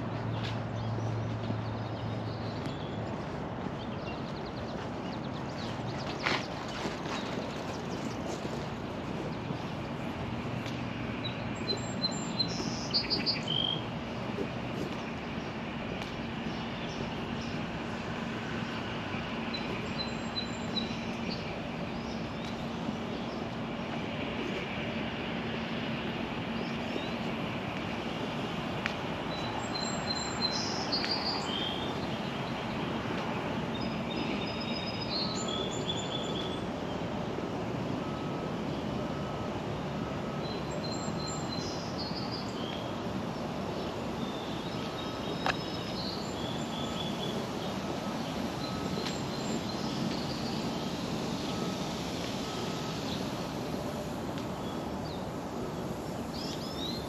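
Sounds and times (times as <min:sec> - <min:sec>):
outdoor background noise: 0:00.0 - 0:57.0
songbirds chirping: 0:00.0 - 0:57.0.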